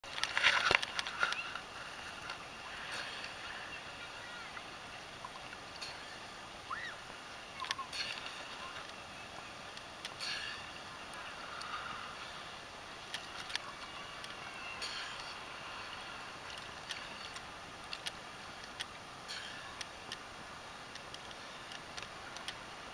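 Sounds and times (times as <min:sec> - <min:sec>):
seawater lapping: 0:00.0 - 0:22.9
small waves: 0:00.0 - 0:22.9
wind hiss: 0:00.1 - 0:22.9.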